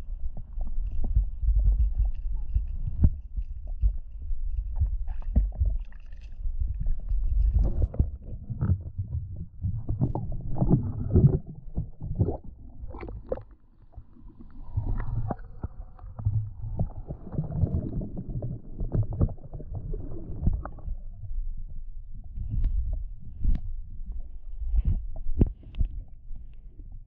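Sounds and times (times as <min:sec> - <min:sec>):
underwater rumbling and sloshing: 0:00.0 - 0:27.0.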